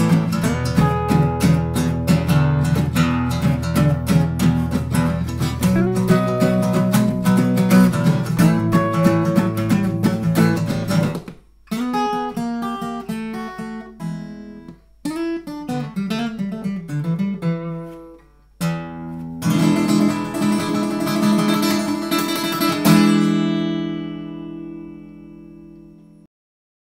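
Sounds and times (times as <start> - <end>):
acoustic guitar playing: 0.0 - 26.3.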